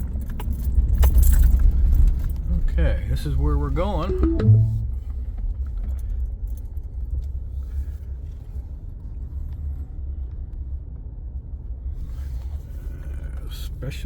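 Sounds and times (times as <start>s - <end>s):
vehicle engine and road noise: 0.0s - 4.1s, 4.8s - 14.0s.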